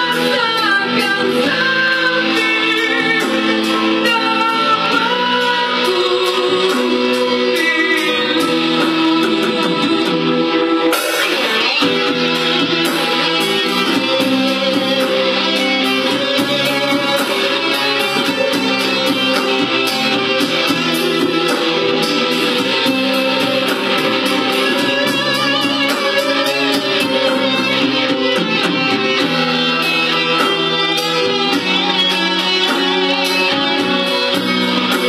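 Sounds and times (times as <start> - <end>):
electric guitar: 0.0 - 35.0
rock band backing with steady beat: 0.0 - 35.0.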